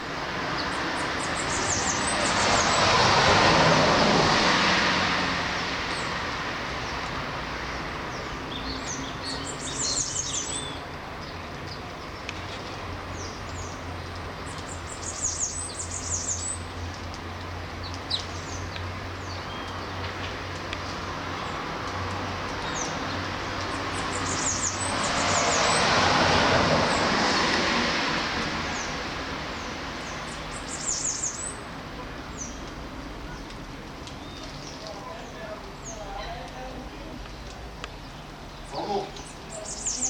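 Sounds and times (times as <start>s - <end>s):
broad rushing noise: 0.0s - 35.9s
small birds chirping: 0.5s - 2.9s, 5.5s - 26.0s, 28.6s - 40.0s.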